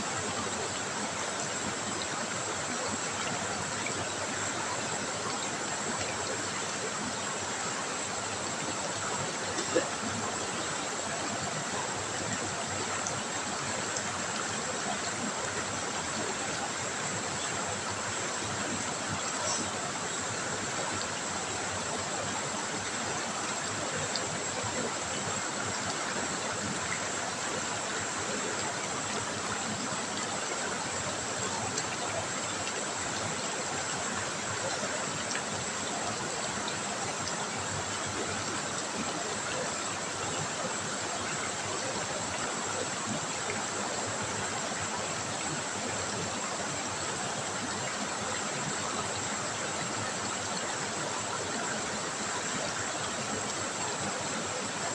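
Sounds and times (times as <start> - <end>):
river water flowing over stones: 0.0 - 54.9.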